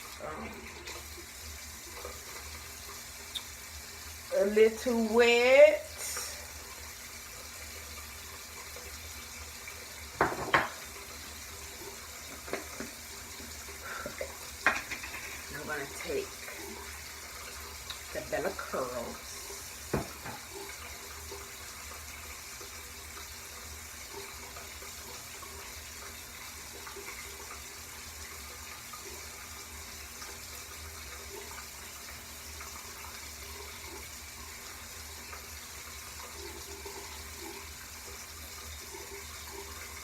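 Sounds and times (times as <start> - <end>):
water running from a tap: 0.0 - 40.0.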